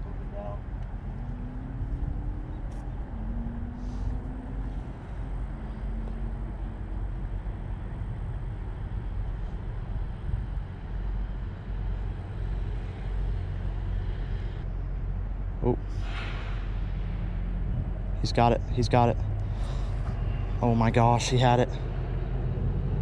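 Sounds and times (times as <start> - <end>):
distant road traffic rumble: 0.0 - 23.0
faint vehicle engine: 0.0 - 23.0.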